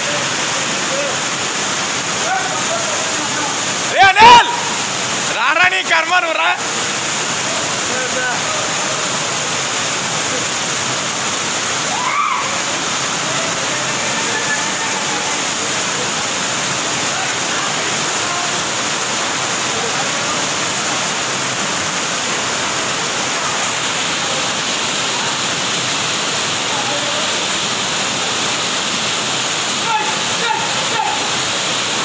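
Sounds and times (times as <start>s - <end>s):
floodwater rushing and churning: 0.0s - 32.0s.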